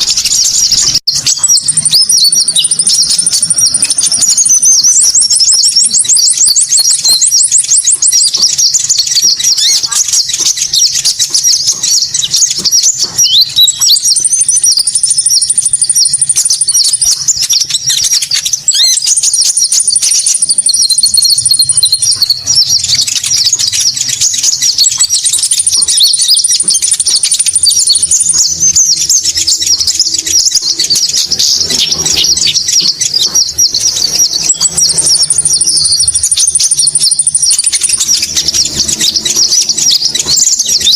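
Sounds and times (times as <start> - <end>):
high-pitched bird chirping: 0.0 - 40.9
rapid high bird trill: 0.0 - 40.9.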